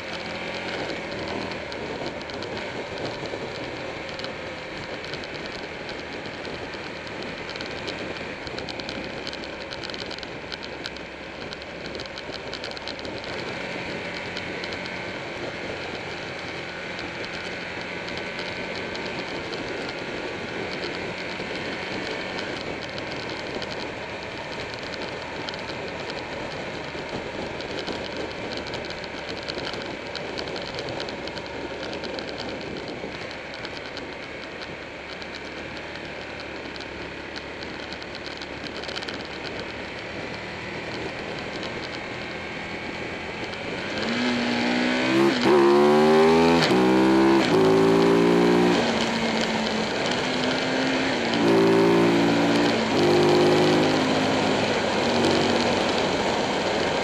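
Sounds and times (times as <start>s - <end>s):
fast continuous rattling: 0.0s - 57.0s
motorcycle engine running: 0.0s - 57.0s.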